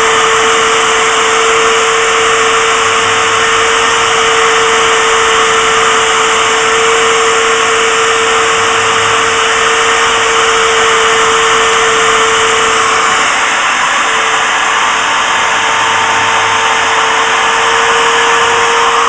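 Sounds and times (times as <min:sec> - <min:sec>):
router spindle milling metal: 0:00.0 - 0:19.0.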